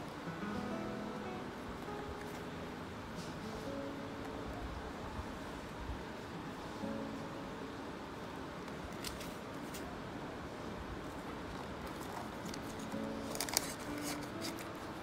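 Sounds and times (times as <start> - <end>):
soft background music: 0.0 - 9.1, 11.9 - 15.0.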